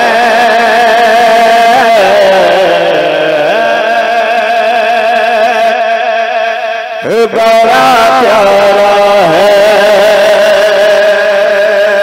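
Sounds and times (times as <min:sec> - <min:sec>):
man singing long wavering note: 0:00.0 - 0:12.0.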